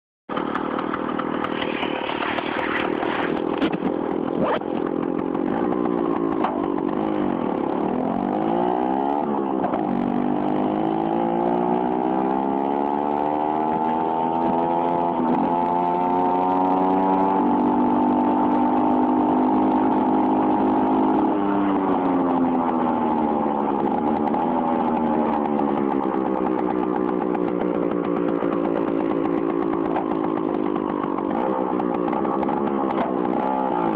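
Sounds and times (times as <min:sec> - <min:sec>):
moped two-stroke engine revving: 0:00.3 - 0:33.9.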